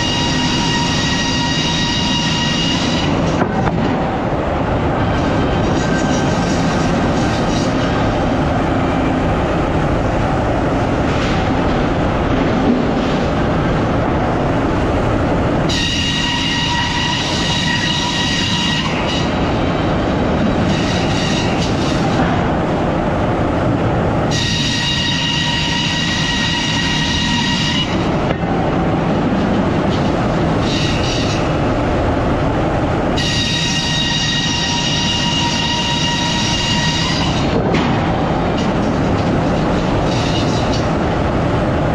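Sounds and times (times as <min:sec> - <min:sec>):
sawmill machinery running: 0:00.0 - 0:41.6.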